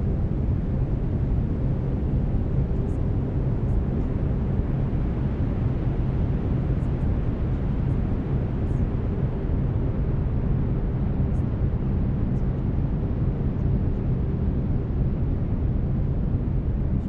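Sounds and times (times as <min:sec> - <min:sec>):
faint humming beat tones: 0:00.0 - 0:17.0.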